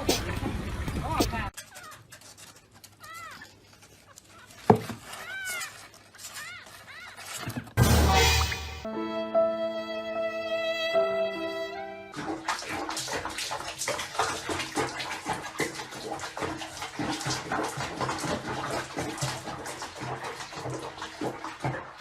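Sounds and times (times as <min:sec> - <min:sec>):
water splashing and sloshing: 0:00.0 - 0:08.9, 0:11.6 - 0:22.0.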